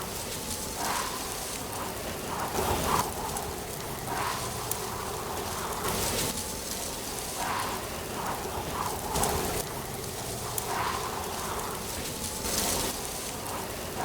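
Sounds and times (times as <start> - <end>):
wind gusting: 0.0 - 14.0.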